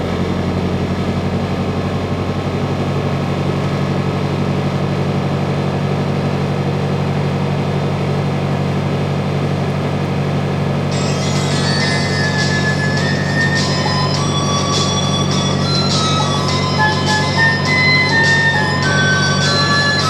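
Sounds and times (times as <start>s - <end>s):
boat engine drone: 0.0s - 20.0s.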